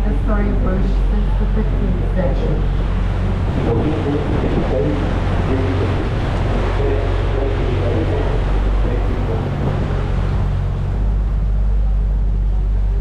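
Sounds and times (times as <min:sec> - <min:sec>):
boat engine humming: 0:00.0 - 0:13.0
water rushing: 0:00.0 - 0:13.0
wind noise: 0:00.0 - 0:13.0.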